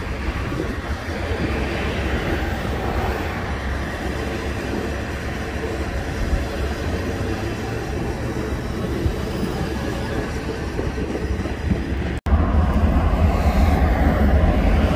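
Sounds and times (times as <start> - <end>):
train wheels rumbling on track: 0.0 - 14.9.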